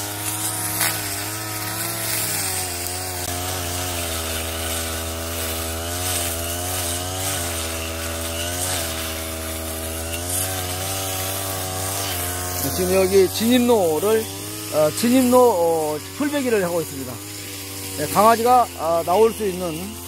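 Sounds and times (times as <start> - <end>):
brush cutter cutting grass: 0.0 - 20.0.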